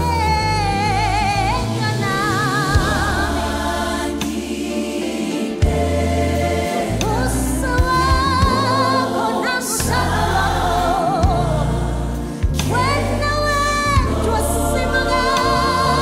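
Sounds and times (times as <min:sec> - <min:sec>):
bass line: 0:00.0 - 0:04.8, 0:05.6 - 0:09.2, 0:09.8 - 0:16.0
choir singing with vibrato: 0:00.8 - 0:16.0.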